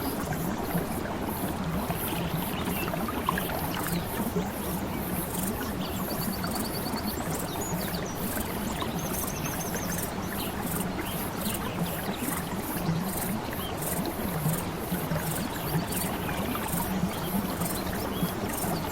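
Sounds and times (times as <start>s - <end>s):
flowing water: 0.0s - 18.9s.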